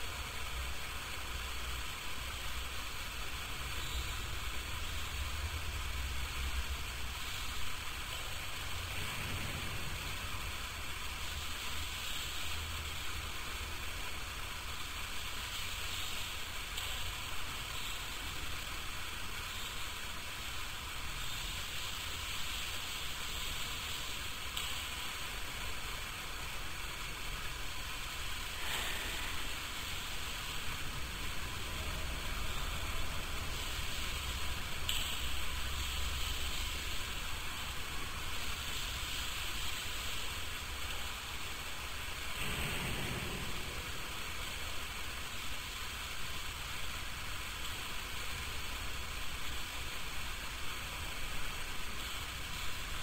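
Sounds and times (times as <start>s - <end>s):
constant low hum: 0.0s - 52.9s
steady hiss: 0.0s - 53.0s.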